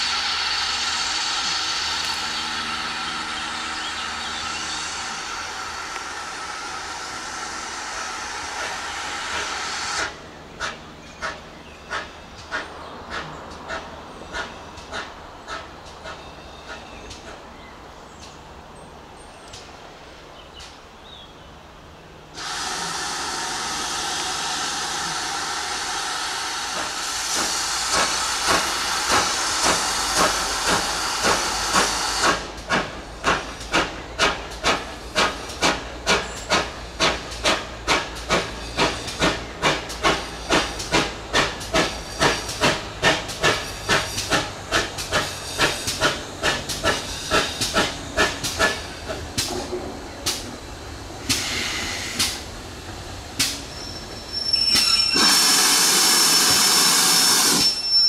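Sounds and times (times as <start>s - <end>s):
steam hissing: 0.0s - 13.8s, 22.4s - 58.0s
steam locomotive chuffing: 0.0s - 17.5s, 22.3s - 58.0s.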